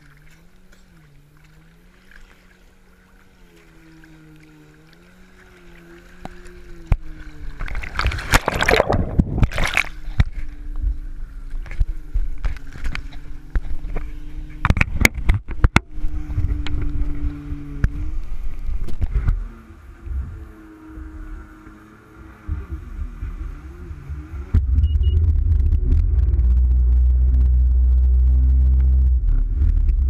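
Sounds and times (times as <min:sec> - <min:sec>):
water slapping and splashing: 0:00.0 - 0:26.4
jet ski engine running: 0:00.0 - 0:30.0.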